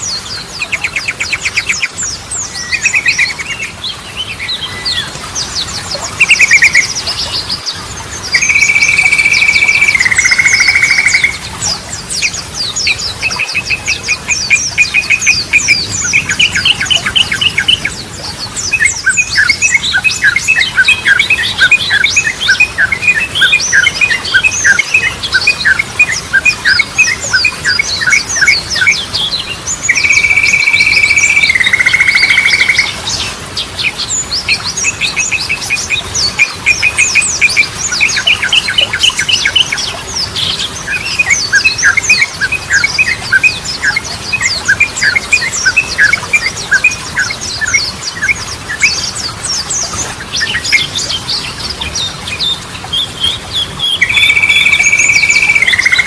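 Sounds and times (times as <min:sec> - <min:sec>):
bird chirps and warbles: 0:00.0 - 0:56.0.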